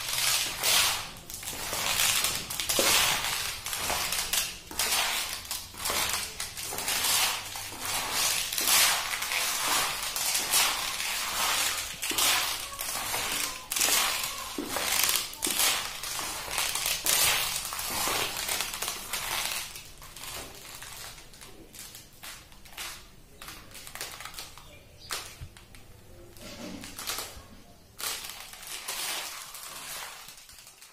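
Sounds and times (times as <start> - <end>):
leather sandals creaking: 0.0 - 25.8.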